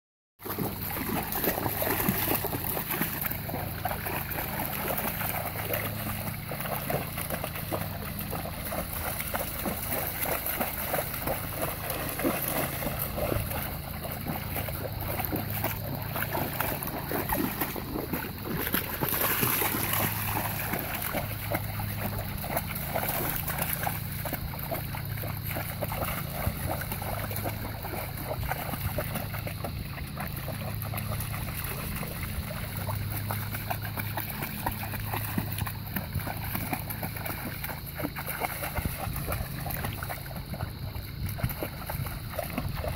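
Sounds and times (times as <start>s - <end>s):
dog splashing through water: 0.4s - 42.9s.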